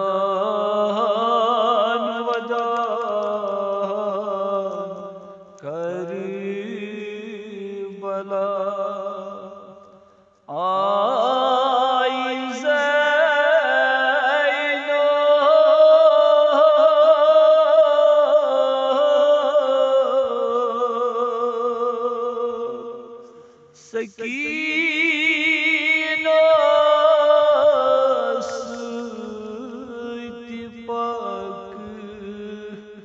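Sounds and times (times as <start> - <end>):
man chanting: 0.0 - 9.8, 10.5 - 33.0.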